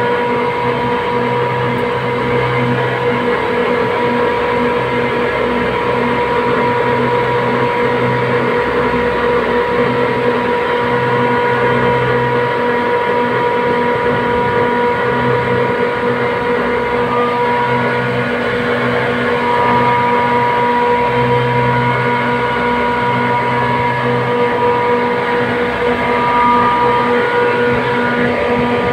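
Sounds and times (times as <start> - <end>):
machine drone with throb: 0.0 - 28.9.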